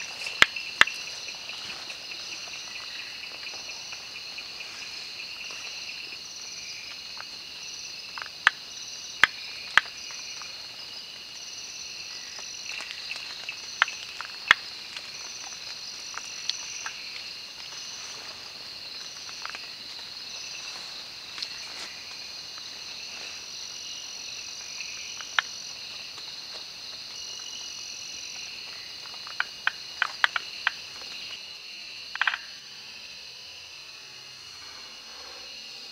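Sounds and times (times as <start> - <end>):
crickets and insects trilling: 0.0 - 35.9.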